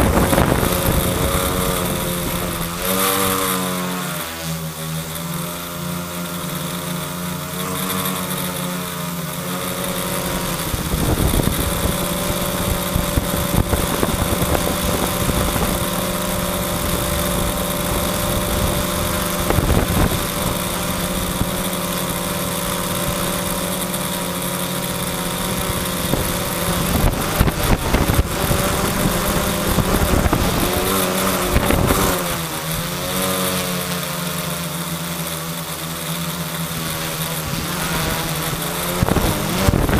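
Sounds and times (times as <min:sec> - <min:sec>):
quadcopter motors whirring: 0:00.0 - 0:39.9.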